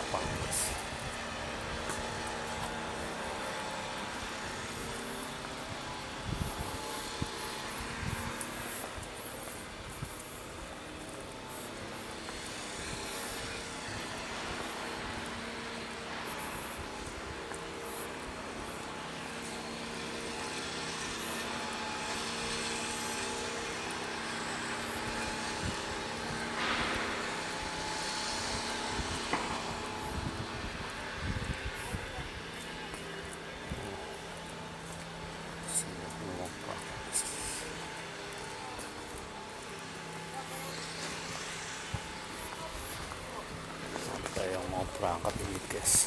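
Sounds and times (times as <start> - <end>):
engine drone: 0.0 - 46.0.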